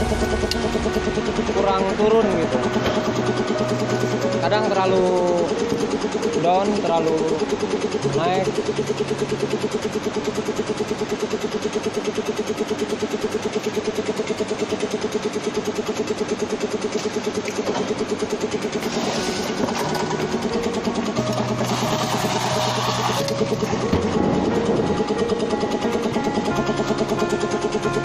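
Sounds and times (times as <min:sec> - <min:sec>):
carton sealer machine drone: 0:00.0 - 0:28.0.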